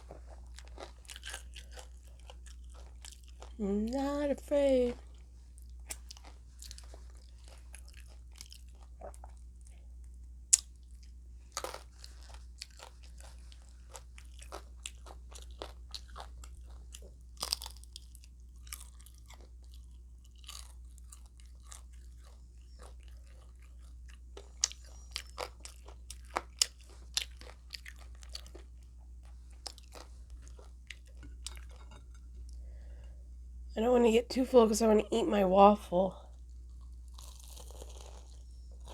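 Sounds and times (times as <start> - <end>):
crunching and chewing: 0.0 - 4.2, 4.8 - 33.0, 36.3 - 38.9
steady low hum: 0.0 - 38.9.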